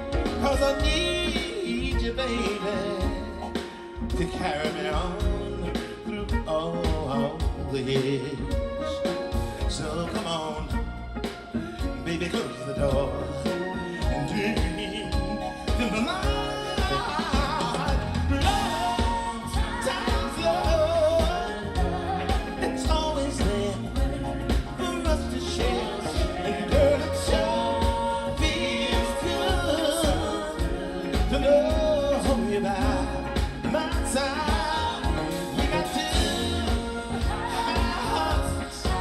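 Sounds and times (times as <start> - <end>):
live band playing: 0.0 - 39.0
person singing: 0.0 - 39.0.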